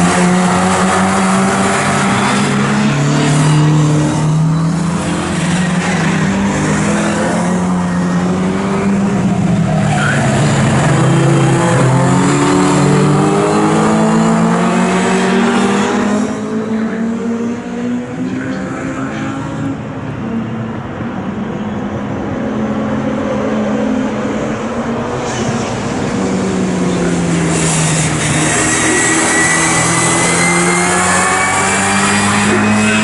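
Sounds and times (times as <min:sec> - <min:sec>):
racing car engines revving: 0:00.0 - 0:33.0.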